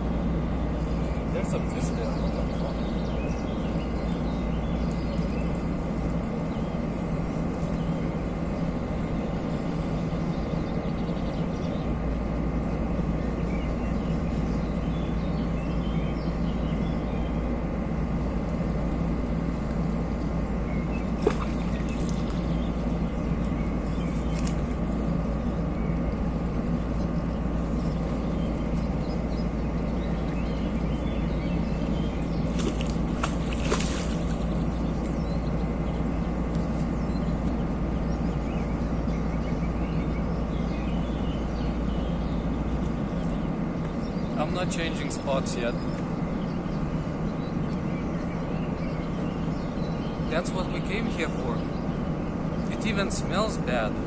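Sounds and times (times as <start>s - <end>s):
low machine-like hum: 0.0s - 54.0s.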